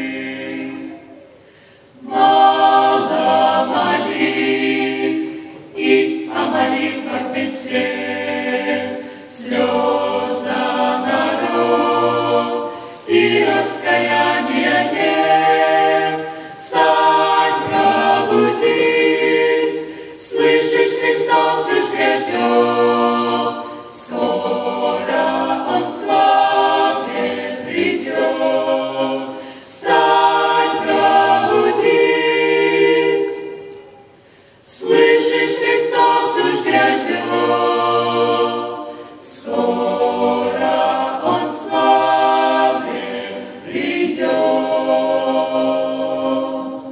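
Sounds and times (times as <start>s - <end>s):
choir singing a cappella: 0.0s - 46.9s.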